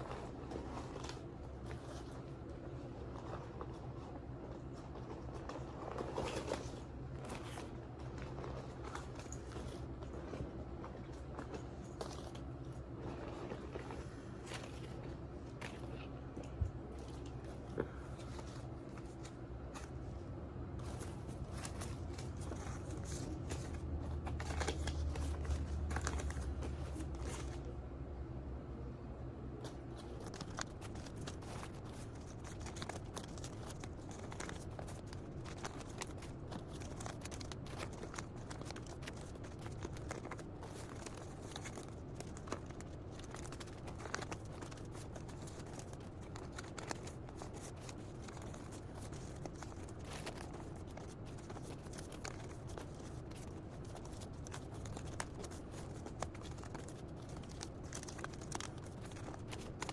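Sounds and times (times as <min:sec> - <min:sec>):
rustling and crinkling: 0:00.0 - 0:28.0, 0:29.4 - 0:59.9.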